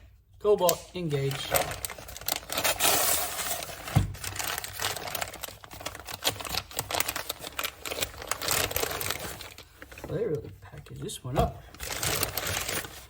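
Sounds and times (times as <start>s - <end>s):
packaging rustling and tearing: 1.0s - 13.0s.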